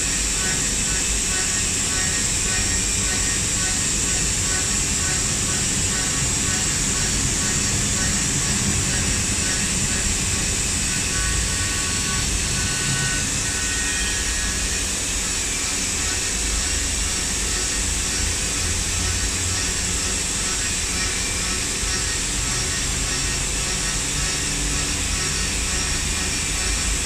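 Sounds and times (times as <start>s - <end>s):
milling machine cutting steel: 0.0s - 27.0s.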